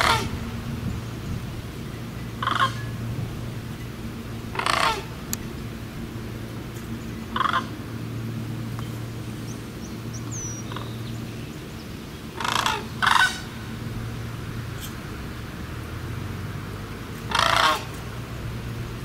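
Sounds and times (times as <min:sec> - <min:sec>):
cranes calling: 0:00.0 - 0:15.0, 0:17.1 - 0:18.6.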